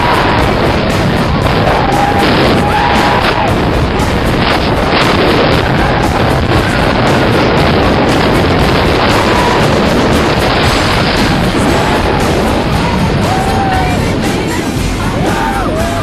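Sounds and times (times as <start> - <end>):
roller coaster rumble: 0.0 - 16.0
wind roar on microphone: 0.0 - 16.0.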